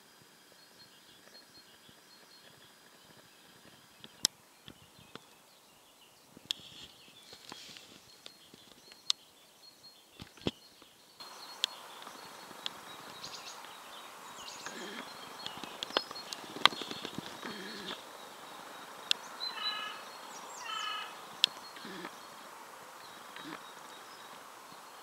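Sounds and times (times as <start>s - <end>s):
background hiss: 0.0s - 25.0s
faint high bird chirps: 0.4s - 25.0s.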